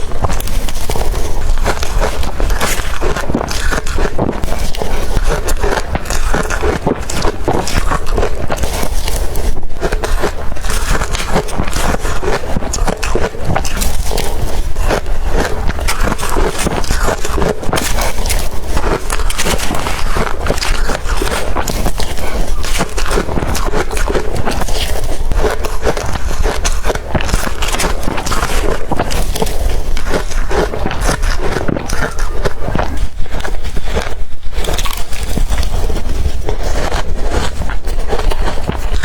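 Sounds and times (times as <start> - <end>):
crushed ice being chewed: 0.0 - 39.0.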